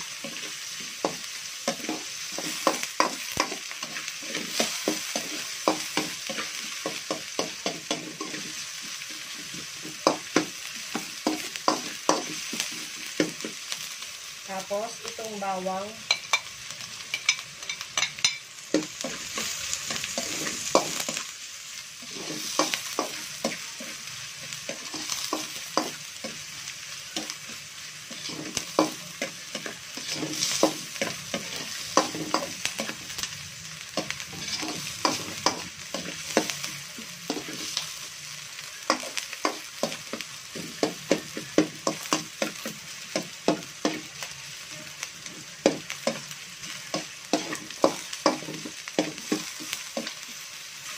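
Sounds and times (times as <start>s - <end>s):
food sizzling in hot oil: 0.0s - 50.9s
metal spatula scraping wok: 0.1s - 13.6s, 16.1s - 50.2s.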